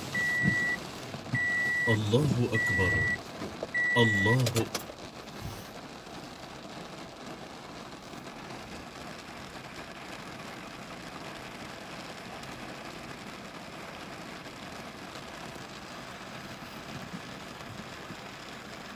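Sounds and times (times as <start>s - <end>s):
rain on a windshield: 0.0s - 18.9s.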